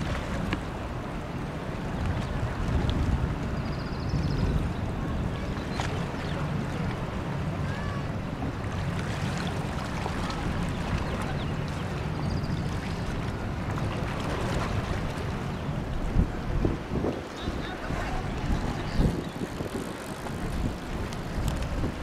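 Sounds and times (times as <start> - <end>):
boats and water: 0.0 - 22.0
wind on microphone: 0.0 - 22.0.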